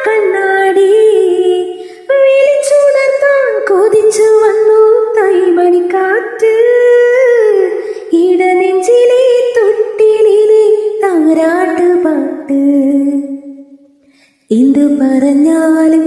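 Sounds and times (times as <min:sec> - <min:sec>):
woman singing: 0:00.0 - 0:13.7, 0:14.5 - 0:16.0.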